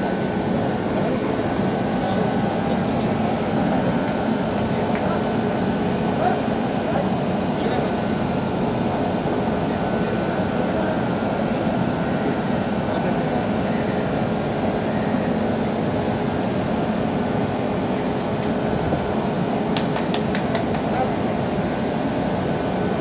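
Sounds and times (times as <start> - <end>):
electric locomotive machine hum: 0.0 - 23.0.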